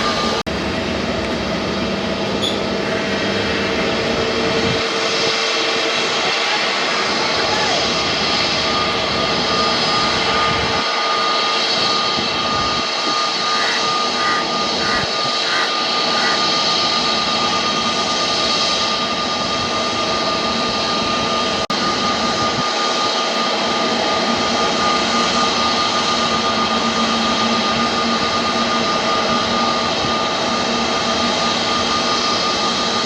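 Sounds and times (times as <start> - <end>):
jet engines rushing and whining: 0.0 - 33.0.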